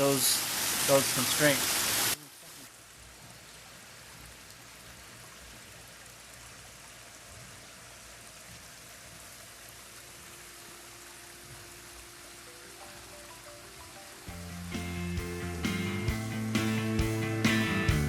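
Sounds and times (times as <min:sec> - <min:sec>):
waterfall running into pond: 0:00.0 - 0:18.0.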